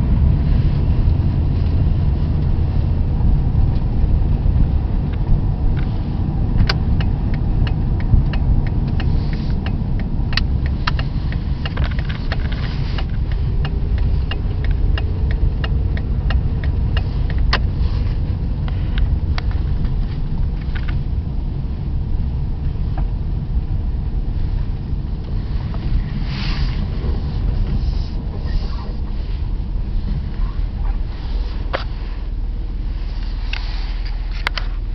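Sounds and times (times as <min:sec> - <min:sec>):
vehicle engine and road rumble: 0:00.0 - 0:34.9.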